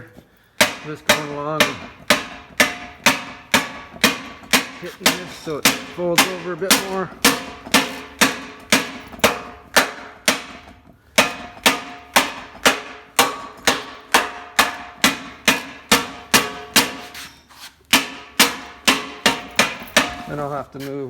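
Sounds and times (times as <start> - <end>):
steel slapper striking metal: 0.6 - 17.3, 17.9 - 20.4.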